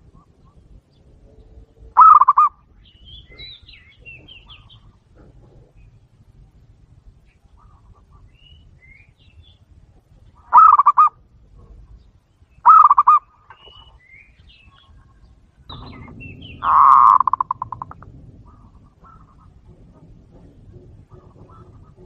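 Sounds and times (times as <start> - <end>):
loud bird calls: 0.0 - 6.2, 7.2 - 22.0
small birds chirping: 0.0 - 22.0.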